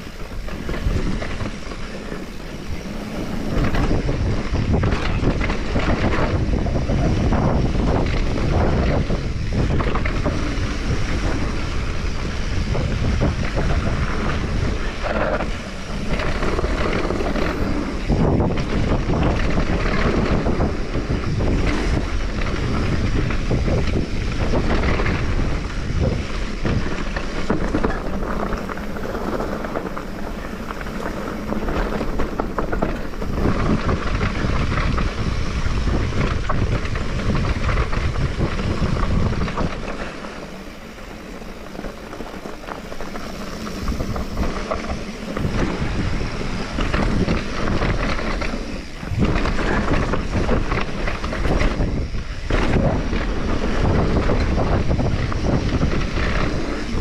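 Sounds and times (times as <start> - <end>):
mountain bike rumble and clatter: 0.0 - 57.0
wind buffeting microphone: 0.0 - 57.0.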